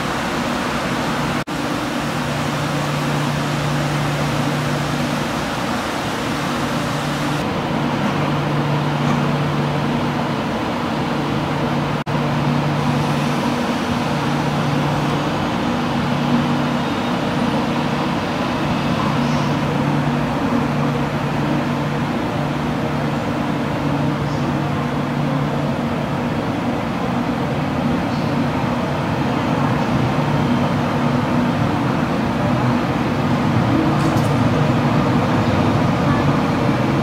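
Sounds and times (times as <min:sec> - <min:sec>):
train rumble and hiss: 0:00.0 - 0:37.0.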